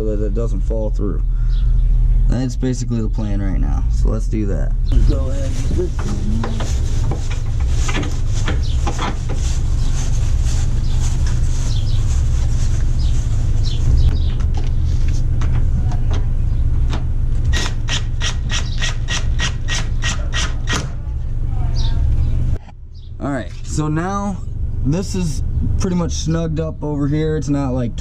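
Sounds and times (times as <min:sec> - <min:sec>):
steady low rumble: 0:00.0 - 0:18.3, 0:20.9 - 0:28.0.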